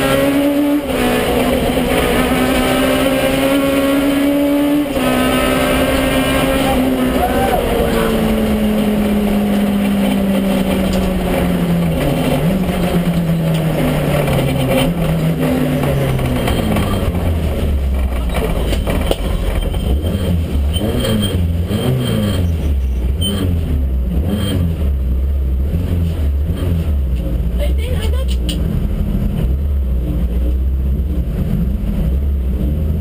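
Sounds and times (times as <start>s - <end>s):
car engine from inside cabin: 0.0s - 33.0s.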